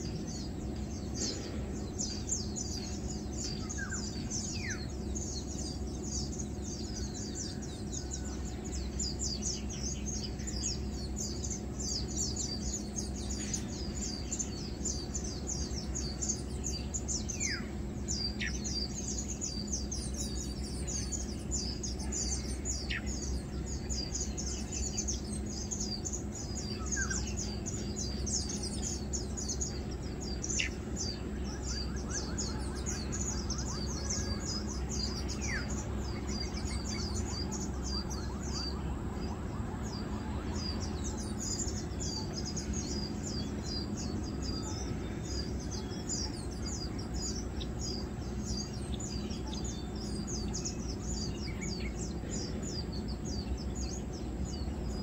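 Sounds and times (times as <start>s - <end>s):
birds chirping: 0.0s - 55.0s
steady low rumble: 0.0s - 55.0s.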